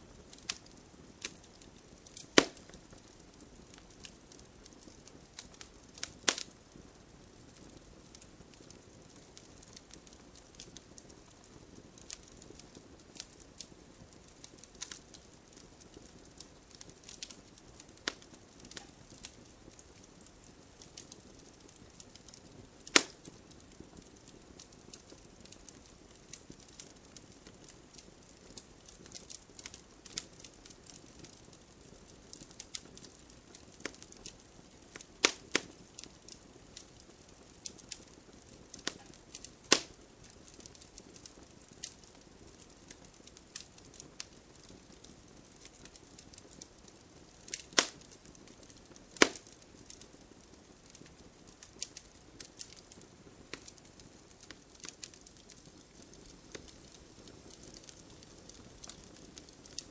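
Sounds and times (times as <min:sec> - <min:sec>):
bonfire crackling and popping: 0:00.0 - 0:59.9
gentle rain hiss: 0:00.0 - 0:59.9.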